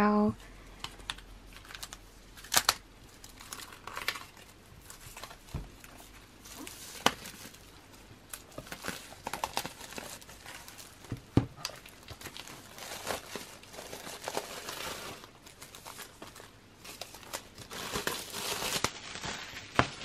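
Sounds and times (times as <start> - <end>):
plastic wrap crinkling and tearing: 0.8 - 20.0.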